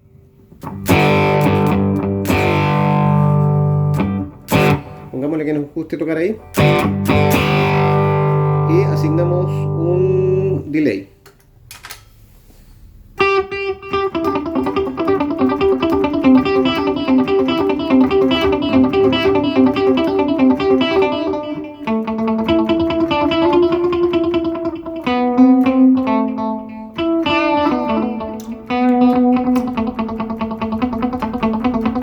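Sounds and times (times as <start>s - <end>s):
electric guitar with delay: 0.0s - 5.4s, 6.4s - 10.7s, 13.2s - 32.0s.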